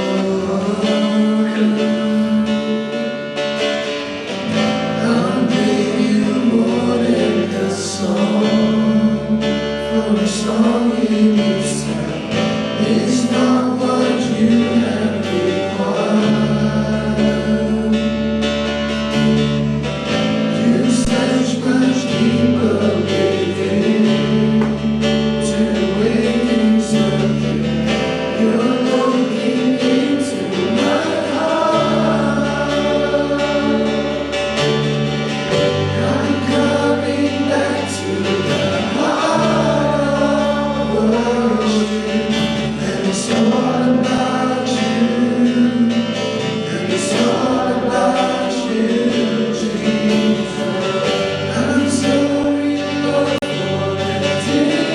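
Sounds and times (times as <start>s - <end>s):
bass line: 0.0s - 54.9s
congregation singing: 0.0s - 54.9s
guitar: 0.0s - 54.9s.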